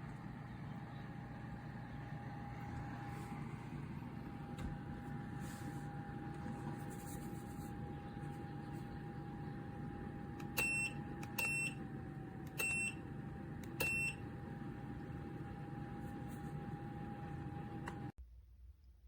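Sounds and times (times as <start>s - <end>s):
space heater fan whirring: 0.0s - 18.2s.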